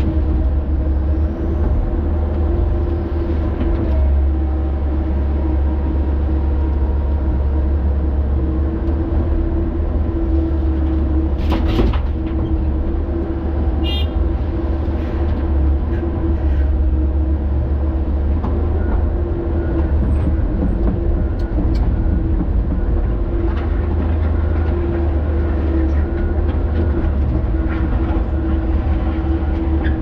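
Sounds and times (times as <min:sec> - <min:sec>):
excavator diesel engine rumbling: 0:00.0 - 0:30.0.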